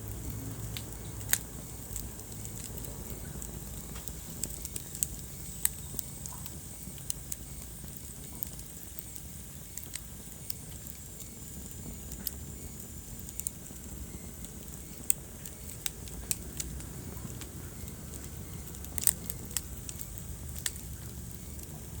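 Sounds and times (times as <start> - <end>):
fire crackles and pops: 0.0 - 22.0
wood fire burning: 0.0 - 22.0.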